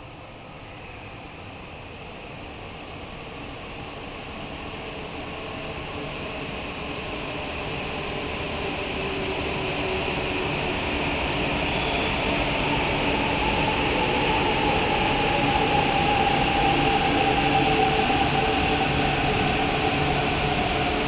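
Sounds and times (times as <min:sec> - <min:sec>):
train rumble and hiss on rails: 0:00.0 - 0:21.0.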